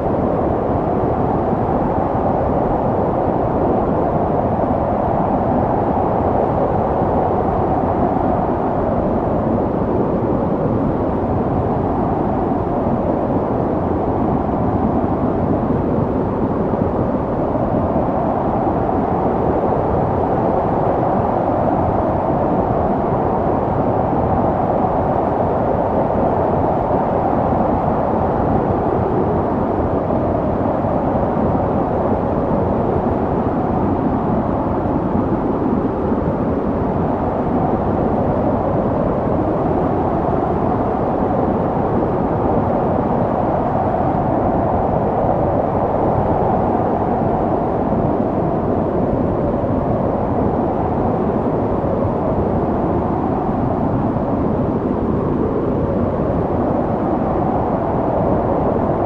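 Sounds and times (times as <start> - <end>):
wind rushing and whistling: 0.0 - 59.0.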